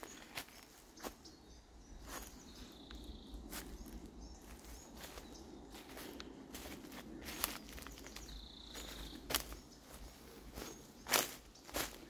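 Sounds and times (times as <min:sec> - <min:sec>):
footsteps on dry leaves: 0:00.0 - 0:12.0.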